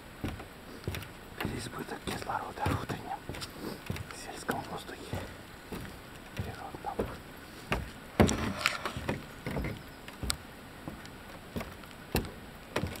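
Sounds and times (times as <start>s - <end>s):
footsteps on wooden bridge: 0.0s - 13.0s.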